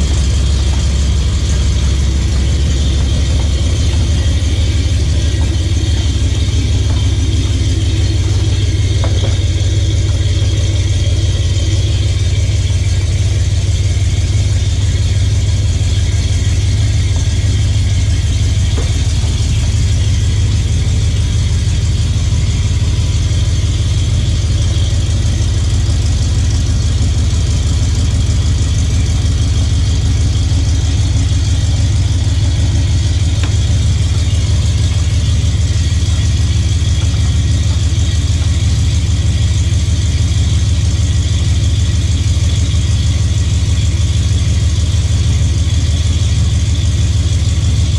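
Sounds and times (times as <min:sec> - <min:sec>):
truck engine droning: 0:00.0 - 0:47.9.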